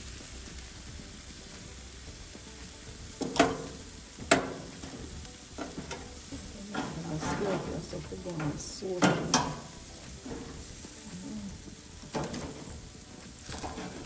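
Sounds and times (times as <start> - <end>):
chicken sizzling: 0.0 - 14.0.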